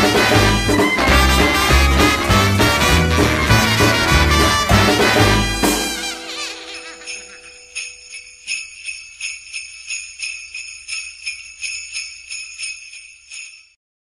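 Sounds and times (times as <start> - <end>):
sleigh bells shaken: 0.0 - 13.8.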